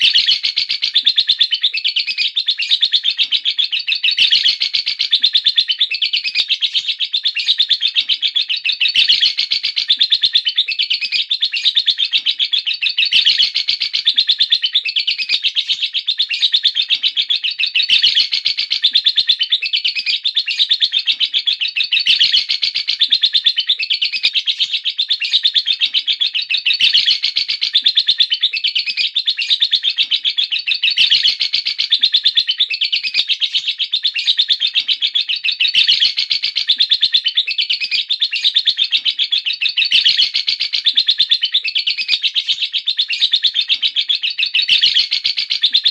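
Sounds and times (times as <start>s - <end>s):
lovebird chattering: 0.0s - 45.9s.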